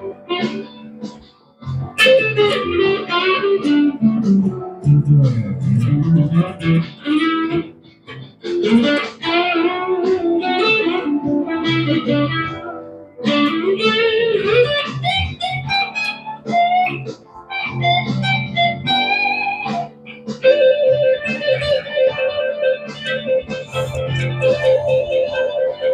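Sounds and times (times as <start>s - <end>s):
electric guitar lead phrases: 0.0s - 25.9s.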